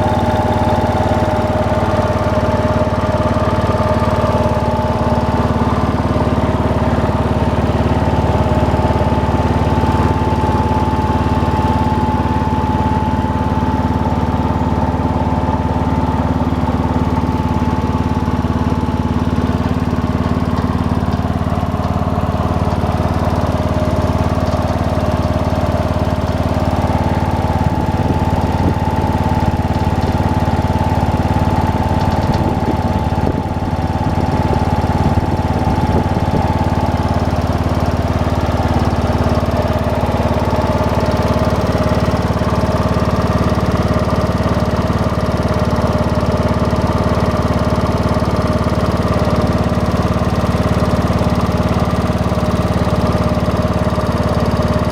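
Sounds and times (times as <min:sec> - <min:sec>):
gasoline engine running: 0:00.0 - 0:54.9.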